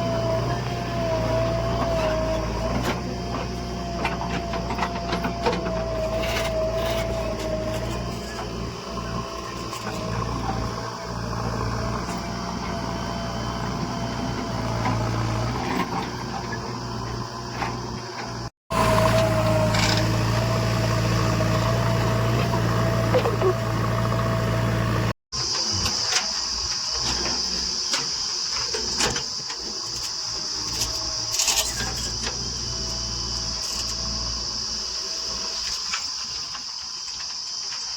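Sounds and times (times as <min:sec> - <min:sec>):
diesel engine running: 0:00.0 - 0:25.2, 0:30.2 - 0:35.5.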